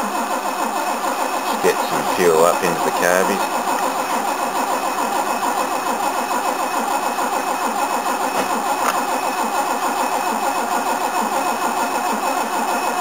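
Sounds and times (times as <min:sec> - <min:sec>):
starter motor cranking engine: 0:00.0 - 0:13.0.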